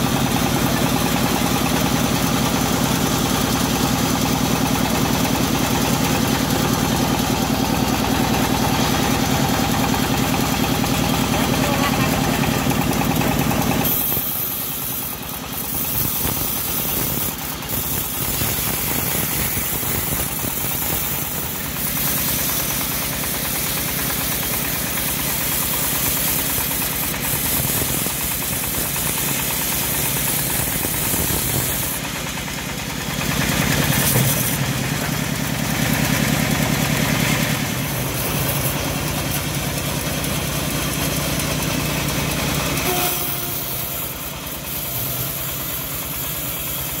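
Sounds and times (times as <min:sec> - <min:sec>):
engine driving band sawmill: 0:00.0 - 0:47.0.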